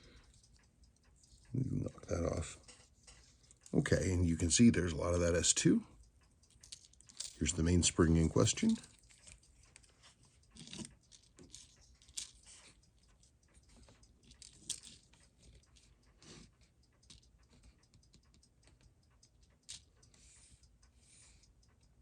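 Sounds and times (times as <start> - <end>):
small metal parts clicking and tapping: 0.0 - 5.3, 6.2 - 21.9.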